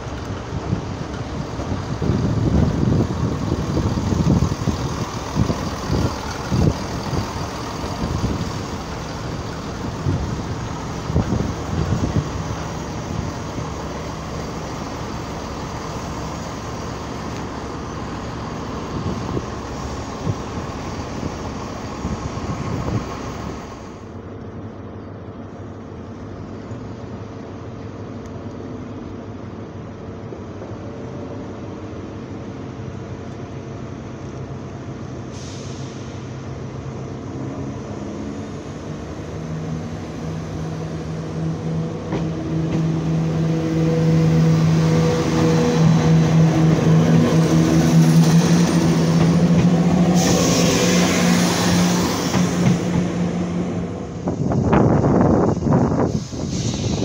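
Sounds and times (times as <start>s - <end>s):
diesel train rumbling: 0.0s - 57.0s
idling diesel trains hum: 0.0s - 57.0s.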